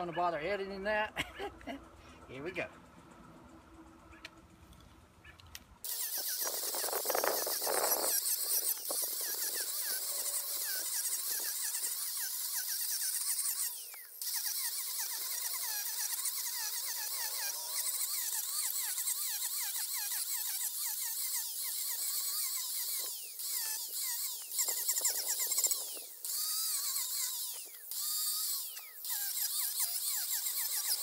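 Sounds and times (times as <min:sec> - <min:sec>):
angle grinder grinding wood: 0:05.8 - 0:31.0.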